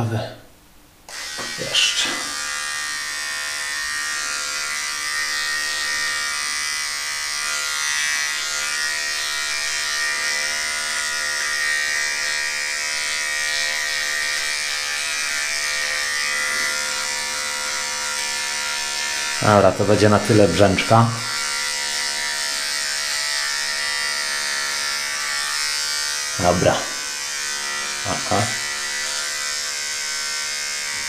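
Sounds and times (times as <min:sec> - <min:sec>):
electric beard trimmer buzzing: 0:01.1 - 0:31.0.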